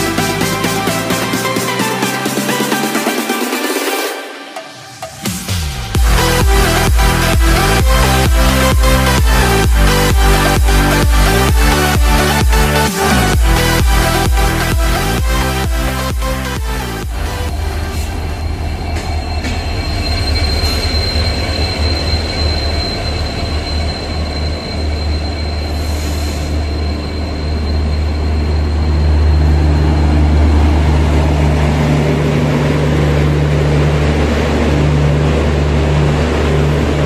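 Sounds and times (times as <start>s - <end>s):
high wheel squeal: 0.0s - 37.0s
locomotive engine rumble: 4.9s - 37.0s.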